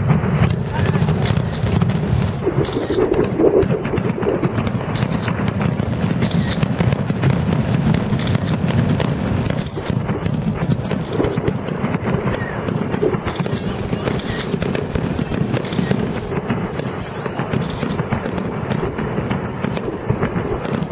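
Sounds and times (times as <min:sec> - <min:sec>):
fireworks popping and crackling: 0:00.0 - 0:20.9.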